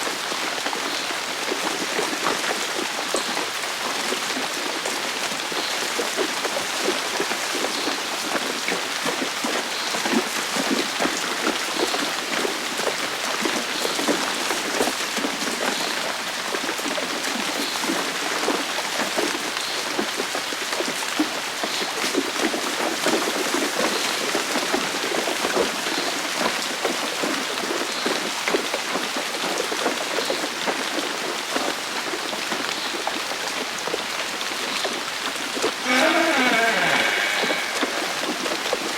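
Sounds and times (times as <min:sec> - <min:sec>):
rain on hard surfaces: 0:00.0 - 0:38.9.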